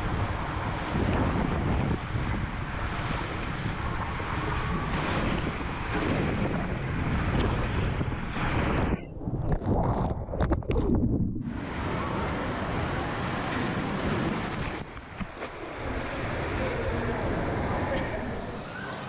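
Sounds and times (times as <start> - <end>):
water splashing and churning: 0.0 - 19.0
water rushing through tube slide: 0.1 - 19.0.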